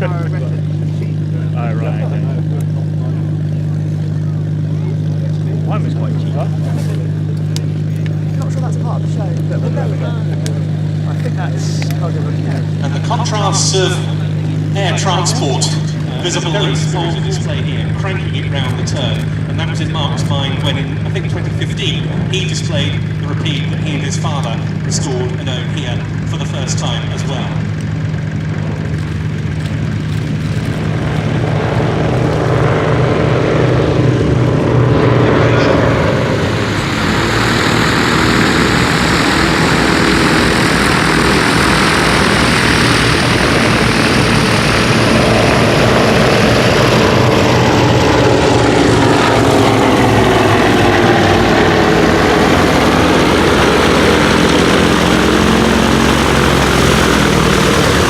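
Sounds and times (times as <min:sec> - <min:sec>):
propeller aircraft flying past: 0:00.0 - 0:58.0.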